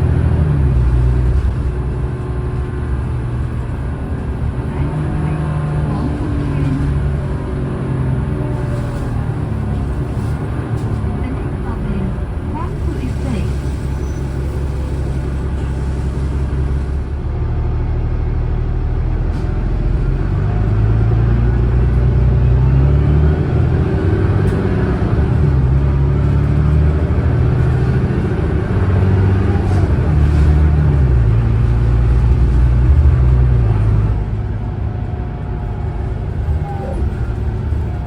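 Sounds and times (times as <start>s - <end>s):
bus diesel engine accelerating: 0.0s - 38.0s.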